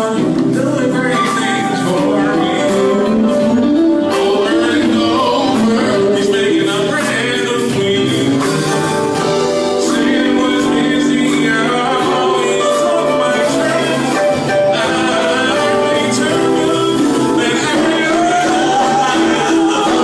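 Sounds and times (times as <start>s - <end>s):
gospel group singing: 0.0s - 20.0s
instrumental accompaniment with beat: 0.0s - 20.0s.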